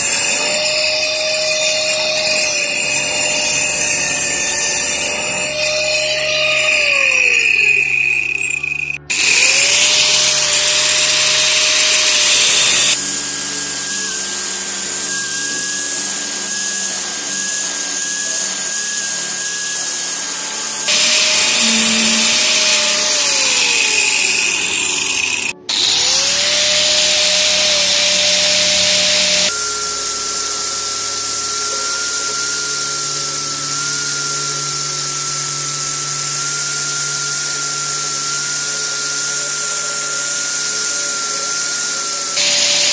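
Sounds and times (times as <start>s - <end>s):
angle grinder grinding steel: 0.0s - 42.9s.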